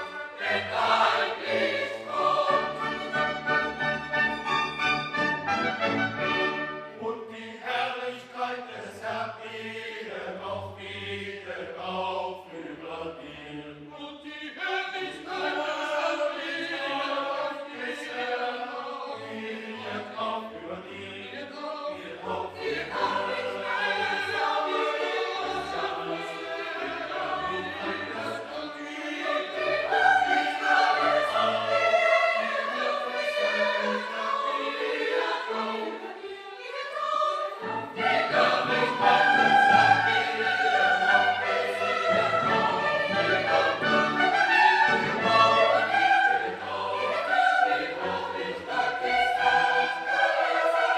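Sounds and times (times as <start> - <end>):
choir singing: 0.0 - 50.9.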